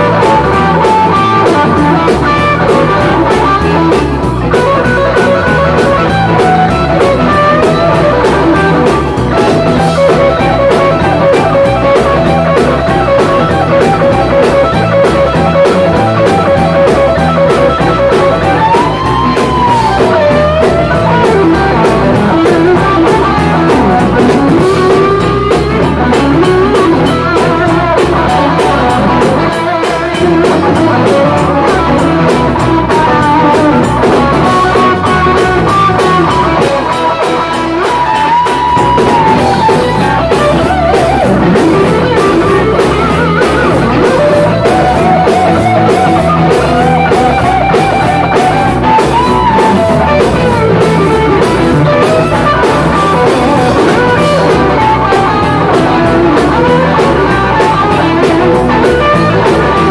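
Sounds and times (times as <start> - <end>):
lead guitar bending notes: 0.0 - 59.9
rock and roll band playing: 0.0 - 59.9.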